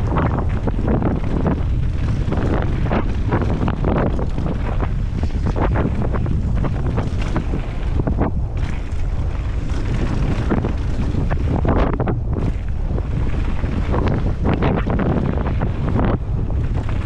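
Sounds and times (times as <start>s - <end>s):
tyres rumbling on dirt trail: 0.0s - 17.0s
wind rushing over microphone: 0.0s - 17.0s.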